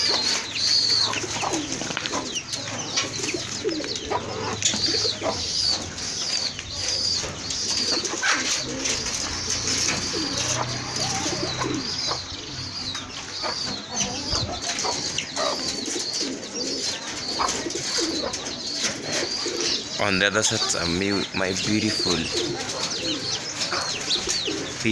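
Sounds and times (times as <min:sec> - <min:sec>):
chickens clucking: 0:00.0 - 0:24.9
high peeping: 0:00.0 - 0:24.9
pigeons cooing: 0:00.0 - 0:24.9.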